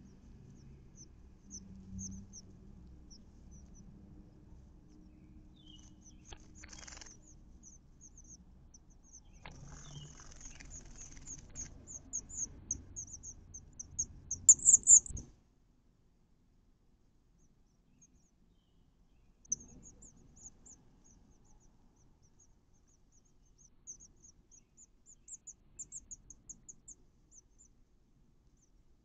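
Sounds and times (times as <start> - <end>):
nestling birds chirping: 0.0 - 15.3, 18.0 - 27.8.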